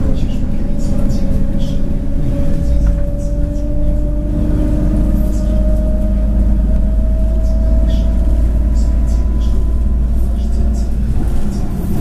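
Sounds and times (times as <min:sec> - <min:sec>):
bus engine rumble: 0:00.0 - 0:12.0
rising whine: 0:01.7 - 0:11.3.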